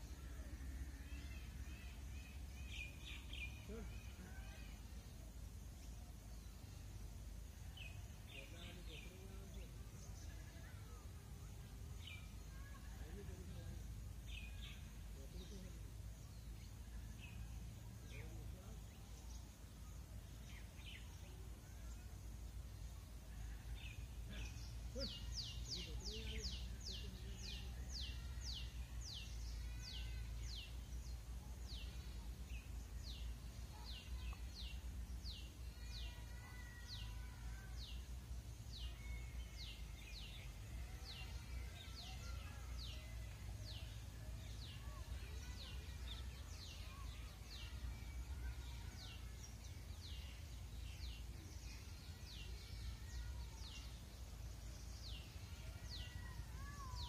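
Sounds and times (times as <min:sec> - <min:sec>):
faint distant bird calls: 0:00.0 - 0:57.0.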